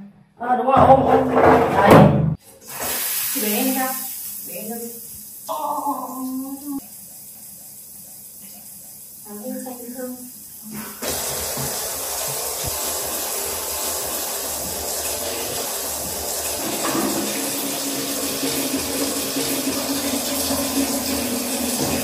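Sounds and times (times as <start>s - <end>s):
shower water pouring into basin: 2.5s - 22.0s.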